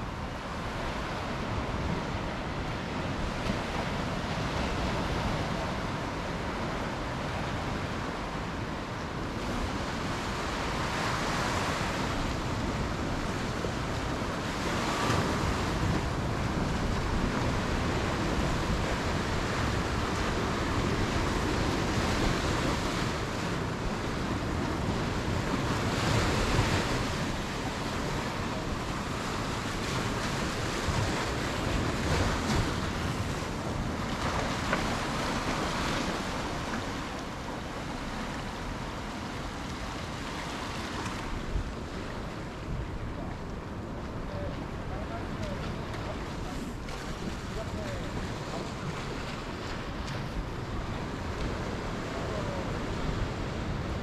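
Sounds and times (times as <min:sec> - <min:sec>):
surf breaking on beach: 0:00.0 - 0:54.0
wind on microphone: 0:00.0 - 0:54.0.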